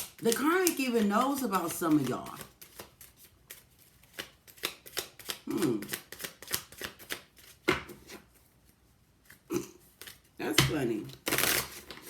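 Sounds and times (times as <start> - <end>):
cards being shuffled: 0.0 - 8.4, 9.2 - 12.0.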